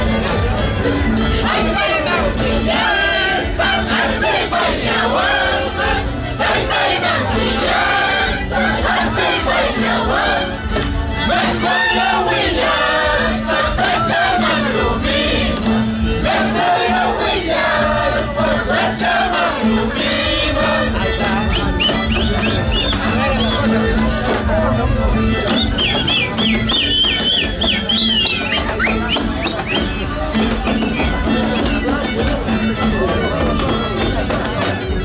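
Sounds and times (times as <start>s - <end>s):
crowd singing and shouting: 0.0s - 35.0s
music: 0.0s - 35.0s.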